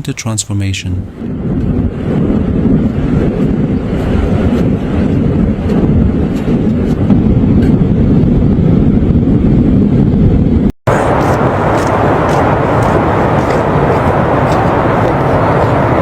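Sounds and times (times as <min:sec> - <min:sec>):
loud low rumbling noise: 0:01.0 - 0:16.0.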